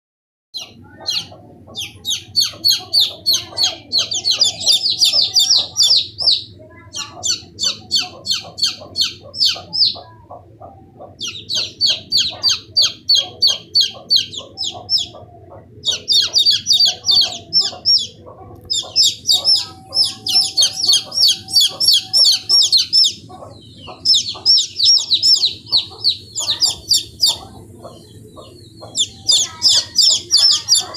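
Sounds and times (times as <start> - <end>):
baby chick peeping: 0.6 - 30.9.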